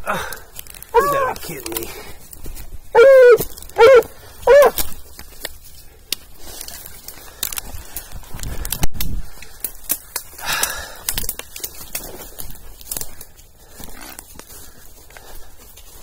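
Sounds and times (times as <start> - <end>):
footsteps through dry brush: 0.1 - 16.0
twigs snapping: 0.1 - 16.0
branches scraping clothing: 0.5 - 16.0.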